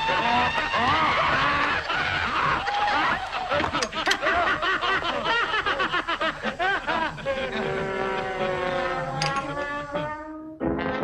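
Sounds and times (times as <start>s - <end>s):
cartoon voices laughing: 0.0s - 10.4s.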